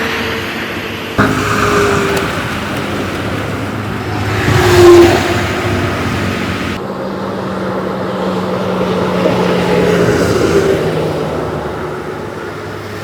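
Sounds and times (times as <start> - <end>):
heavy vehicle engine running: 1.1 - 13.0.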